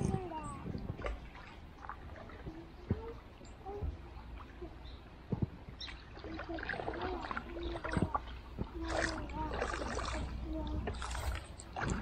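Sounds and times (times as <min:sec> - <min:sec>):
water swishing with oar strokes: 0:00.0 - 0:12.0.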